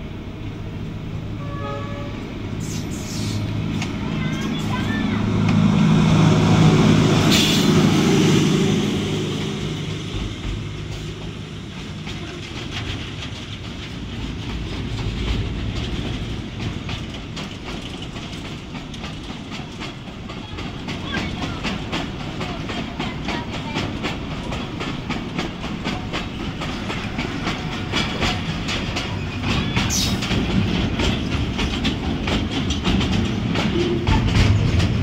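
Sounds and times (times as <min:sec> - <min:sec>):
locomotive engine drone: 0:00.0 - 0:35.0
freight wagons rumbling: 0:00.3 - 0:35.0
train wheels clickety-clack: 0:02.6 - 0:35.0.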